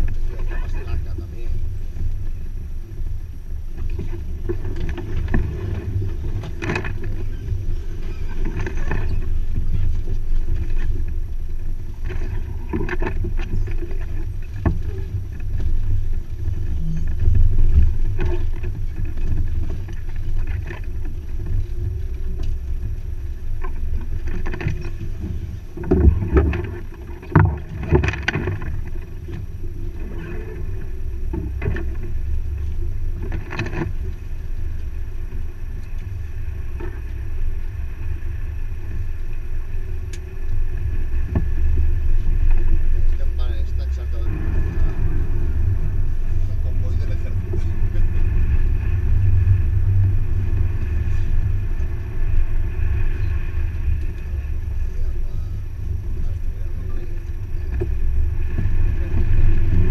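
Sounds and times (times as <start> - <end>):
engine and drivetrain rumble: 0.0 - 59.9.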